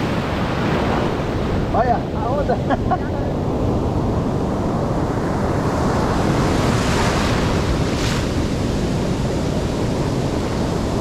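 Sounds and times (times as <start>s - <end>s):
surf breaking on a beach: 0.0s - 11.0s
wind buffeting microphone: 0.0s - 11.0s.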